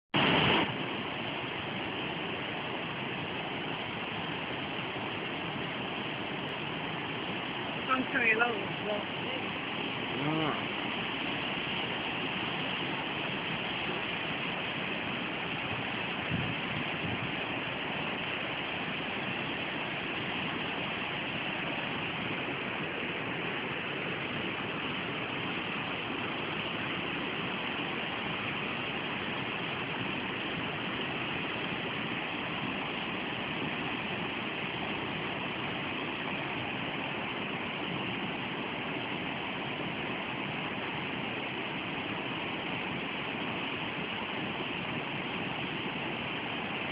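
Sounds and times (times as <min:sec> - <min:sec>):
white-water river rushing: 0:00.2 - 0:46.9.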